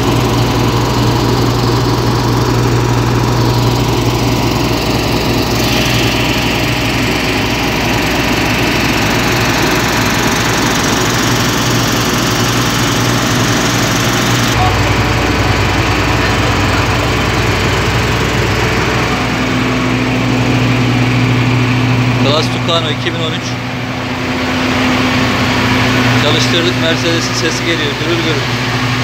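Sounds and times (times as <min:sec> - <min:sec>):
diesel engine rumbling: 0:00.0 - 0:29.0.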